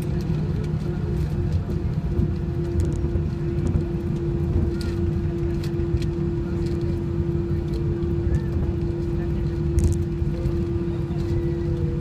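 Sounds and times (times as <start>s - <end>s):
engine and airflow rumble: 0.0s - 12.0s
steady hum: 0.0s - 12.0s.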